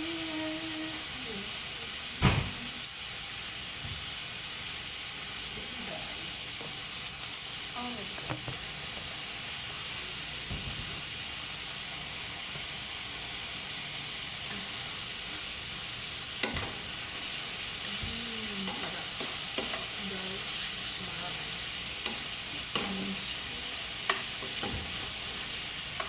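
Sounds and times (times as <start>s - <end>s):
food sizzling in a frying pan: 0.0s - 26.0s.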